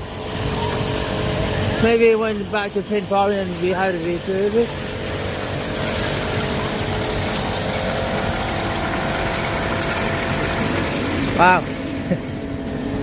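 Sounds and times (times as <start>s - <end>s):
machine running with low rumble: 0.0s - 13.0s.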